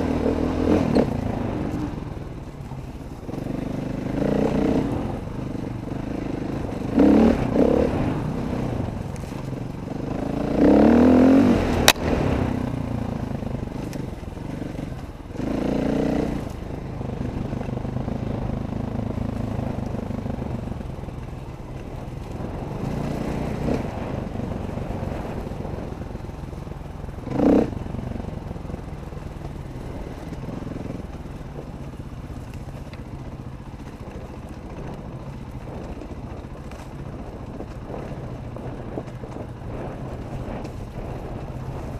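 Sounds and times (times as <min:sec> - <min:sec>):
dirt bike engines revving: 0:00.0 - 0:41.9.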